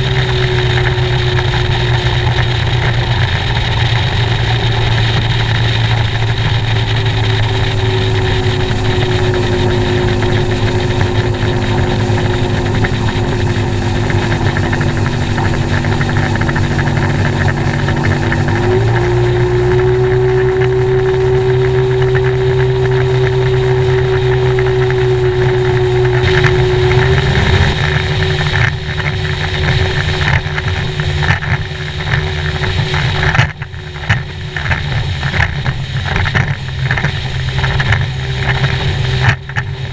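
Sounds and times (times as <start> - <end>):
hull slapping waves: 0.0 - 39.9
outboard motor drone: 0.0 - 39.9
rushing water: 0.0 - 39.9.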